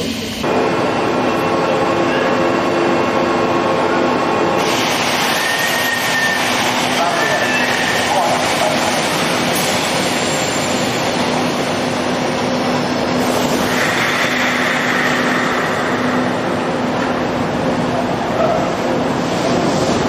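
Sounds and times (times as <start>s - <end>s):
train rail rumble: 0.0s - 20.0s.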